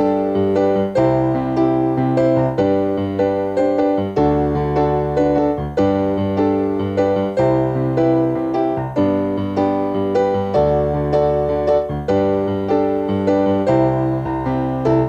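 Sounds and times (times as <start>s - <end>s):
digital piano playing chords: 0.0s - 15.0s.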